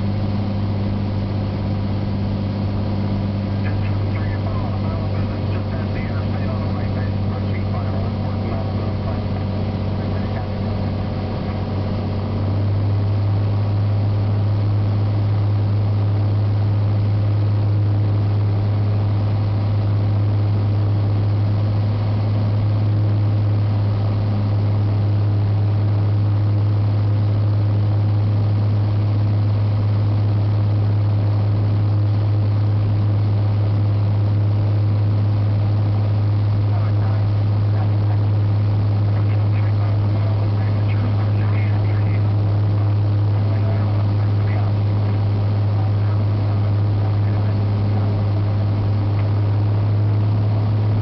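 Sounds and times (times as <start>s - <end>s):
airplane engine and propeller drone: 0.0s - 51.0s.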